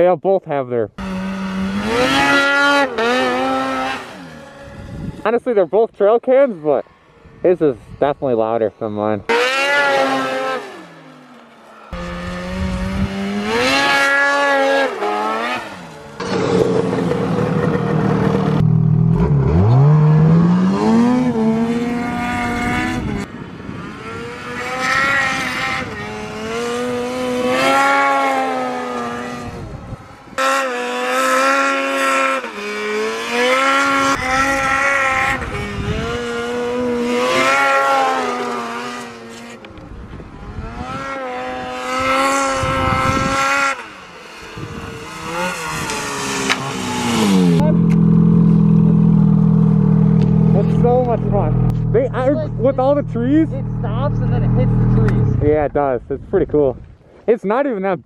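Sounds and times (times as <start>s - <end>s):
snowmobile engine revving: 1.0s - 5.4s, 8.8s - 56.0s.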